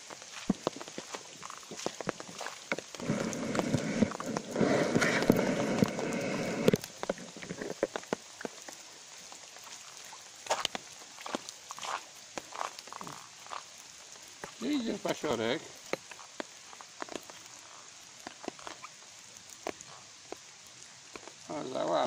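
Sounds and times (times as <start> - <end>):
drops tapping on wet ground: 0.0 - 18.9, 19.5 - 21.5
rustling noise: 0.0 - 20.1
light rain falling: 0.0 - 22.0.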